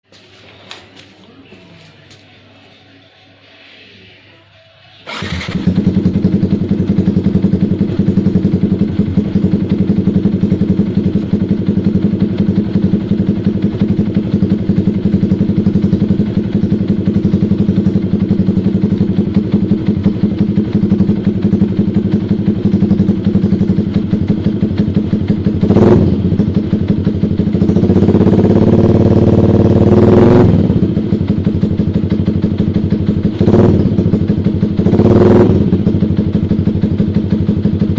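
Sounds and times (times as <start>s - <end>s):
motorcycle engine idling and revving: 5.0s - 37.9s.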